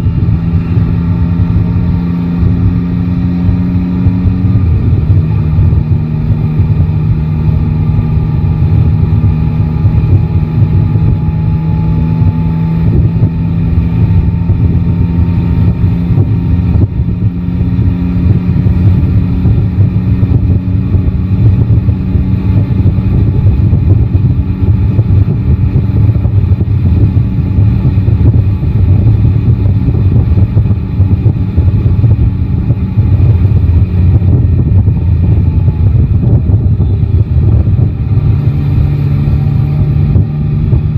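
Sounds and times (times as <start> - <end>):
motorcycle engine low rumble: 0.0 - 40.9.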